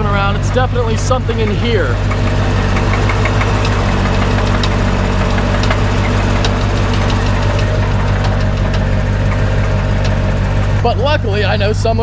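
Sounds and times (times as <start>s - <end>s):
car engine idling: 0.0s - 12.0s
engine knocking: 0.0s - 12.0s.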